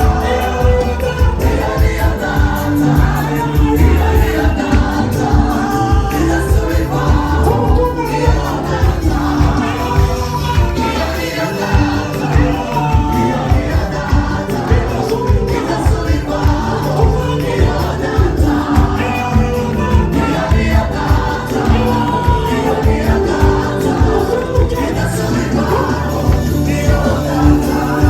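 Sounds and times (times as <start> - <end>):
band playing: 0.0 - 28.0
gospel choir singing: 0.0 - 28.0
steady drum beat: 0.0 - 28.0.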